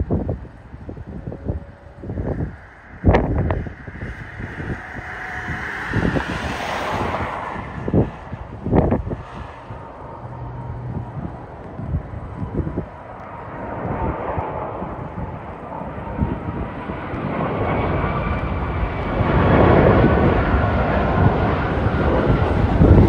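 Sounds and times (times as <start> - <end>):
jet airliner rumble with whine: 0.0 - 23.0.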